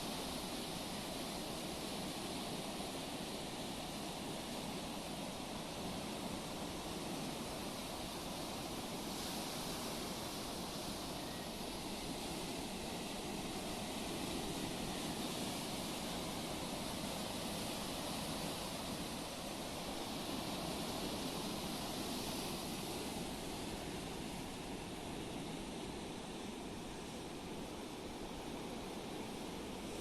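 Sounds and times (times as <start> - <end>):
sea waves washing in: 0.0 - 30.0.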